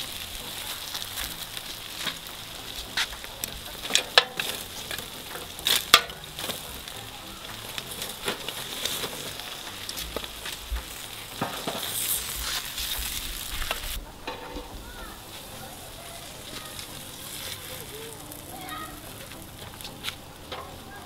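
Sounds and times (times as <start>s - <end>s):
faint steady hiss: 0.0s - 21.0s
foil rustling: 0.0s - 21.0s
metal tongs knocking on charcoal: 0.9s - 15.4s, 18.1s - 20.9s.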